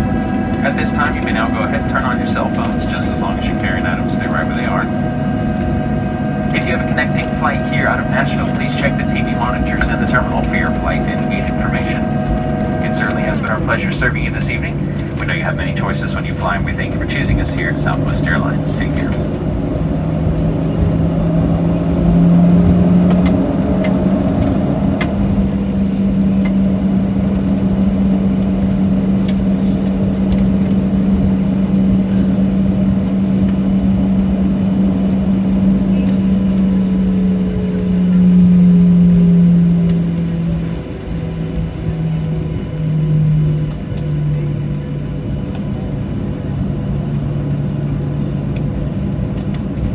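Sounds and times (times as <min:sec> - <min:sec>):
jet engines idling hum: 0:00.0 - 0:49.9
low drone: 0:00.0 - 0:49.9.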